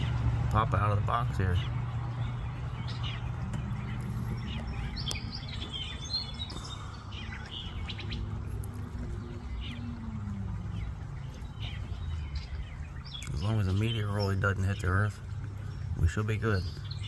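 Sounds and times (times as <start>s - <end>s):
low rumble: 0.0s - 16.2s
birds chirping: 0.0s - 17.0s.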